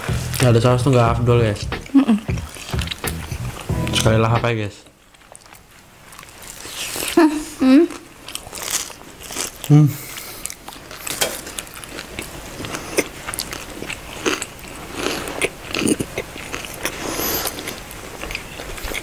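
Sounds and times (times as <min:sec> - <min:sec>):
people chewing food: 0:01.7 - 0:03.7, 0:05.0 - 0:19.0.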